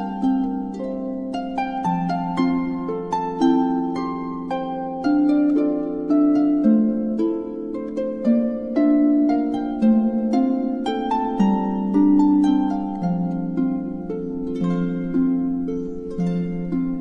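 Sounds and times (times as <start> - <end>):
harp plucking gentle melody: 0.0 - 17.0
low sustained notes: 0.0 - 17.0.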